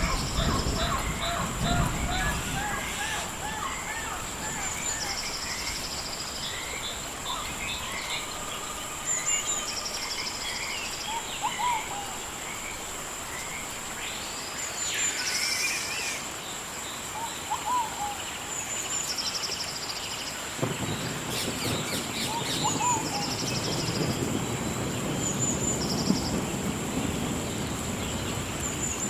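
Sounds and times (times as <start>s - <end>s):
high insect drone: 0.0s - 29.0s.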